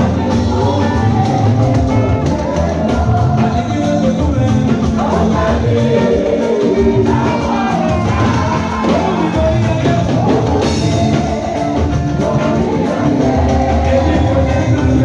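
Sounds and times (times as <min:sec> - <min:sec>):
choir singing with band: 0:00.0 - 0:15.0
drum kit: 0:00.0 - 0:15.0.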